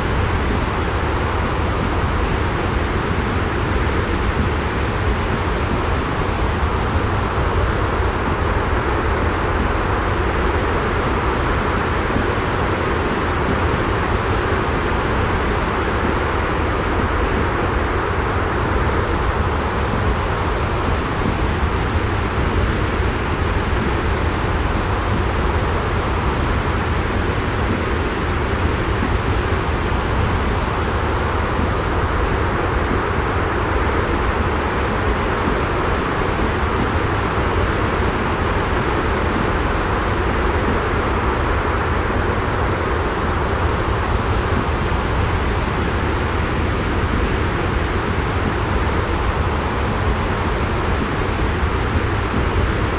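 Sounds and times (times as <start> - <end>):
white noise with low rumble: 0.0 - 52.9.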